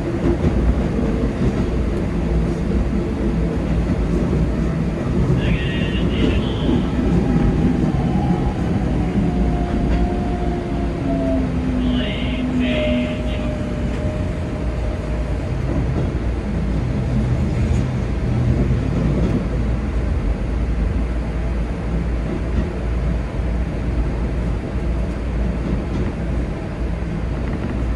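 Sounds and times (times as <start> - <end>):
wheels rumbling on rails: 0.0 - 27.9.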